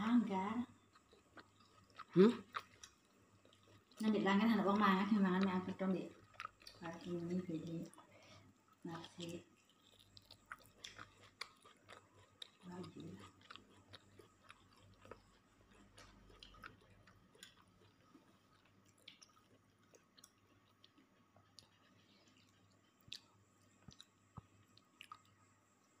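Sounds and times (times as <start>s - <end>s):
faint steady hum: 0.0s - 26.0s
person eating and chewing: 0.8s - 26.0s.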